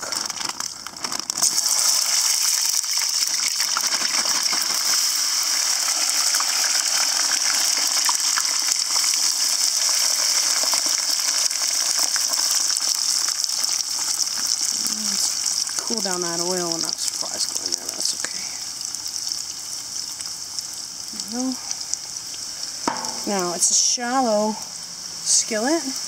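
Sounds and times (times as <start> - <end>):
small crackles of oil: 0.0 - 23.4
fries deep-frying in hot oil: 0.0 - 26.0.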